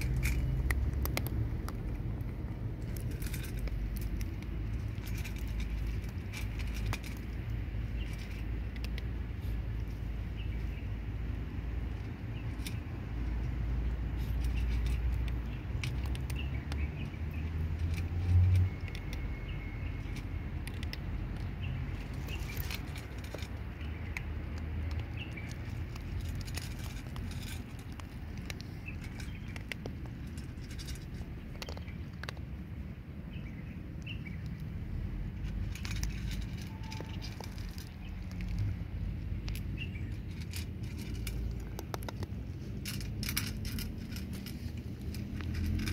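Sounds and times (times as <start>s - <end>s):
light clicks and crunches: 0.0s - 32.9s, 35.3s - 45.9s
steady low rumble: 0.0s - 45.9s.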